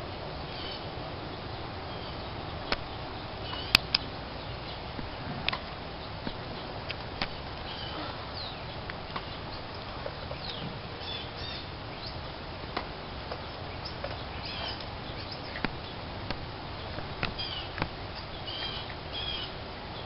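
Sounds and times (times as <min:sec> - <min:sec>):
outdoor background hiss: 0:00.0 - 0:20.0
small birds chirping: 0:00.0 - 0:20.0.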